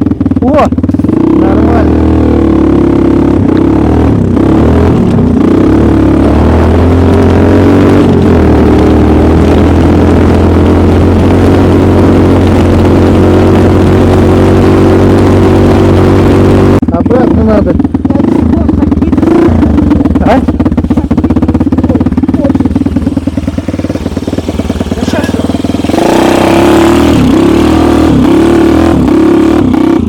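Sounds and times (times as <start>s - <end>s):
snowmobile engine running: 0.0s - 30.0s.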